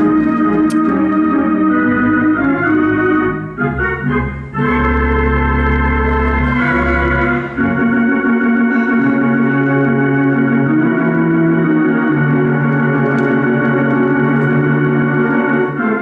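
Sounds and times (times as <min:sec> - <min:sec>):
theatre organ chords: 0:00.0 - 0:16.0.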